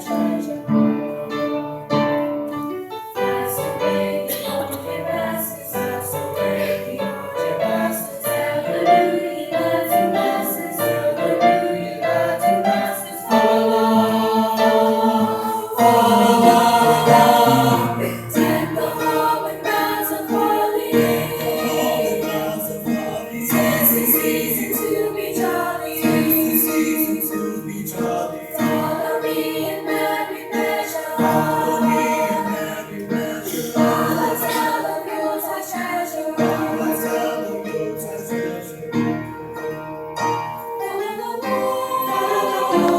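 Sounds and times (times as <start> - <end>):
chorus singing in harmony: 0.0 - 42.9.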